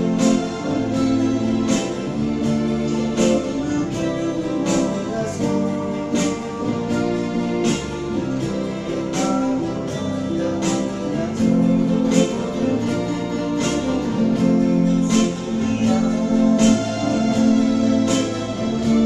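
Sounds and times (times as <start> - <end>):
electric guitar: 0.0 - 19.0
electronic keyboard chords: 0.0 - 19.0
percussive beat: 0.0 - 19.0.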